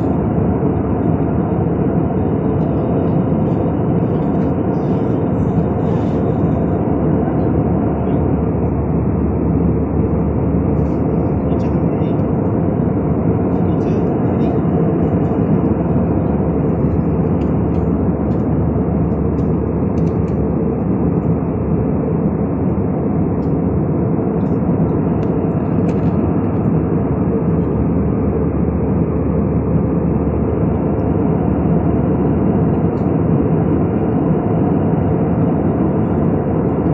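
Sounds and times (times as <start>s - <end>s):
jet engines roaring in cabin: 0.0s - 36.9s.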